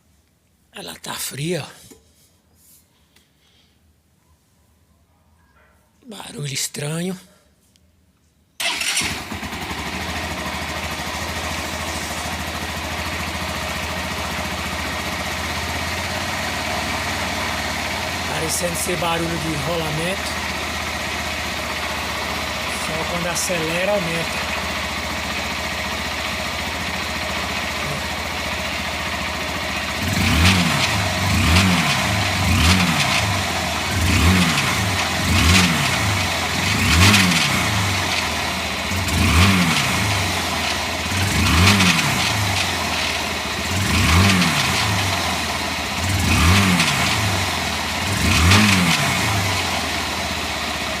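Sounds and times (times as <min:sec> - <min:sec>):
motorcycle engine revving: 0:08.6 - 0:51.0.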